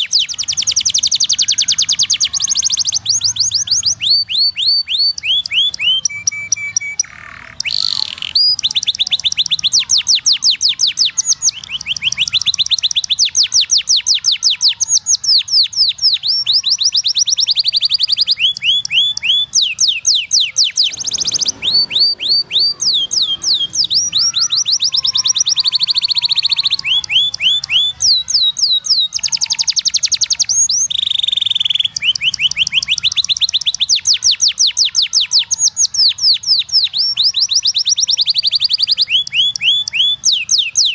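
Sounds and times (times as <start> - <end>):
canary singing fast trills: 0.0 - 40.9.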